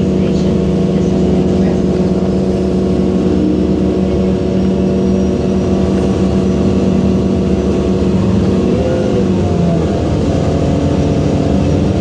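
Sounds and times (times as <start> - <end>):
bus drivetrain humming: 0.0 - 12.0.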